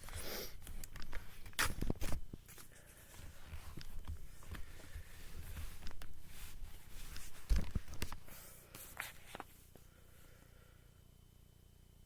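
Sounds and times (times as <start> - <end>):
rustling and handling: 0.0 - 10.0.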